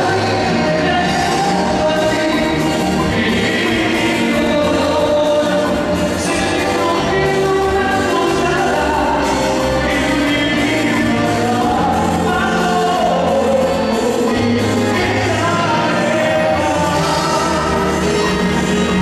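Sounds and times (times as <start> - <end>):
tropical band playing: 0.0 - 19.0
voices singing together: 0.0 - 19.0.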